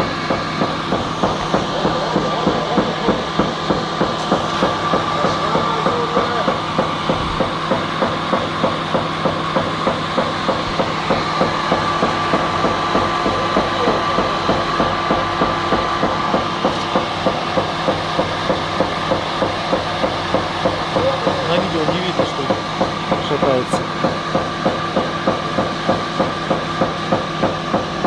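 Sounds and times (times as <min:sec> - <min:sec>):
grinding machine knocking: 0:00.0 - 0:28.0
motor and gearbox hum: 0:00.0 - 0:28.0.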